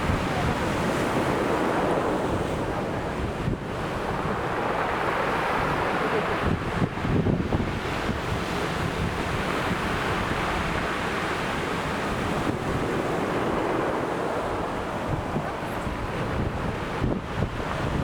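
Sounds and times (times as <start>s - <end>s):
sea waves breaking on beach: 0.0s - 18.0s
wind buffeting microphone: 0.0s - 18.0s.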